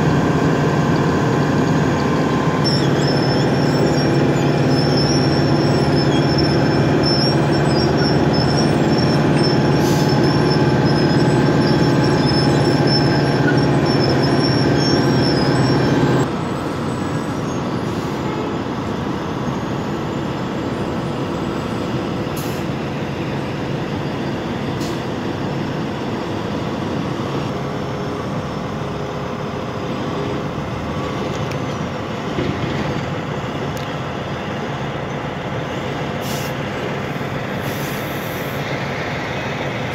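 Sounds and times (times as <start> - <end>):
milling machine diesel engine: 0.0 - 39.9.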